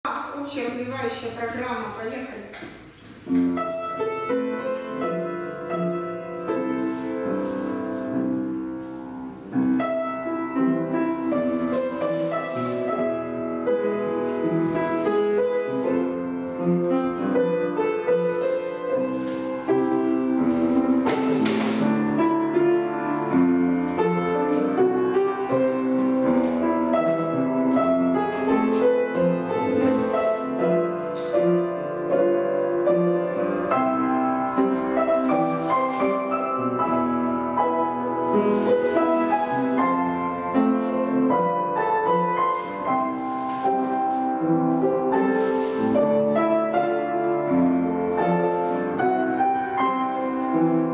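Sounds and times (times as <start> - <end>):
slow classical piano: 0.0 - 50.9.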